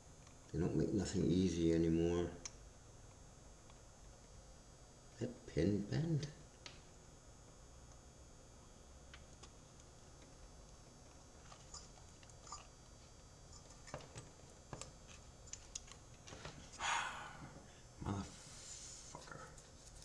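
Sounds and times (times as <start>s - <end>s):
faint steady background hum: 0.0s - 20.0s.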